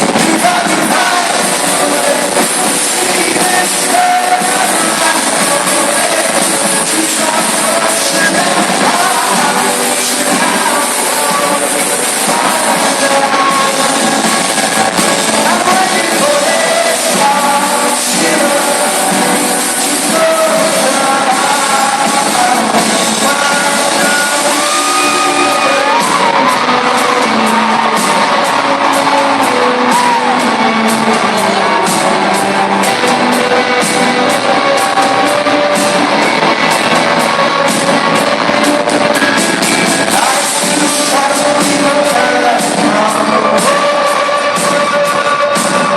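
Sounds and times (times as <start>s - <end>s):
drums and cymbals: 0.0s - 45.9s
live rock band: 0.0s - 45.9s
person singing: 0.0s - 45.9s.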